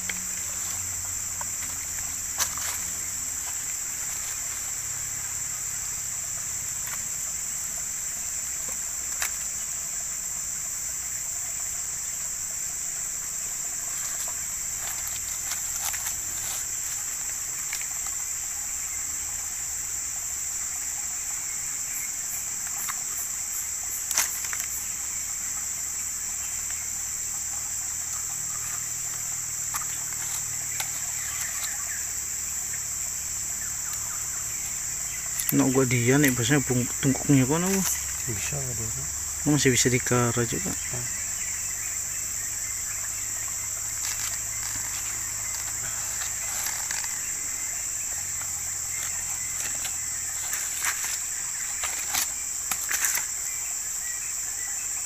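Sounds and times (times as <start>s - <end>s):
bamboo clicks and rustles: 0.0s - 55.0s
insects droning: 0.0s - 55.0s.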